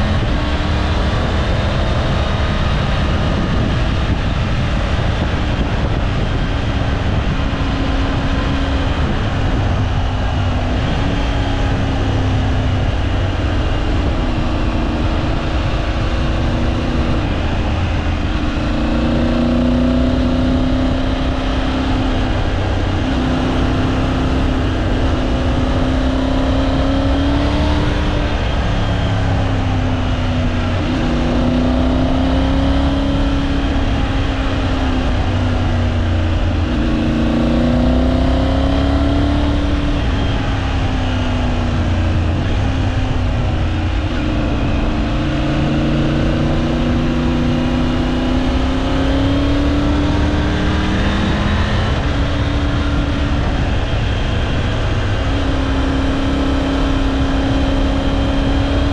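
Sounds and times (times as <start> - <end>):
motorcycle engine revving: 0.0 - 58.9
wind and road noise: 0.0 - 58.9.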